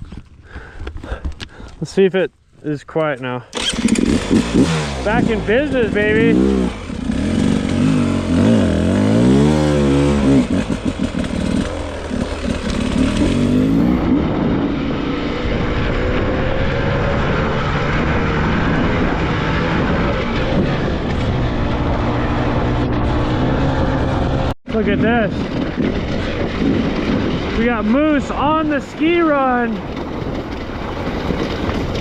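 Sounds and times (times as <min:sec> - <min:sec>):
dirt bike engine revving: 0:03.6 - 0:32.0.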